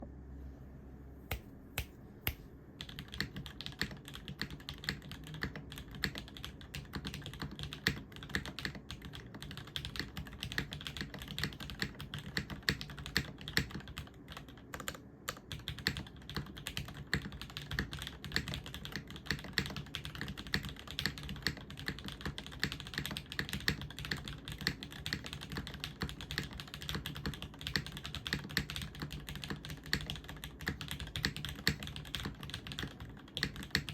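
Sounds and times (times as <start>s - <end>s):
mechanical keyboard typing: 2.8s - 33.9s.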